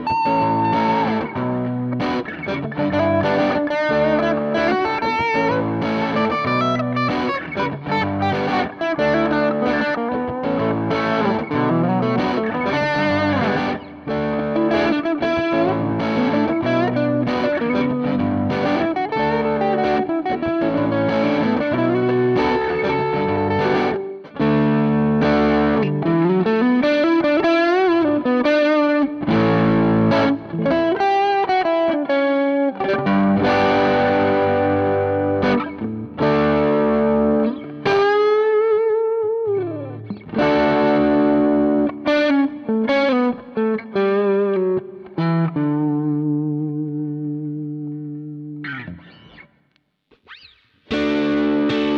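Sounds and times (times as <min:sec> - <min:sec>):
electric guitar lead lines: 0:00.0 - 0:51.9
overdriven electric guitar chords: 0:00.0 - 0:51.9.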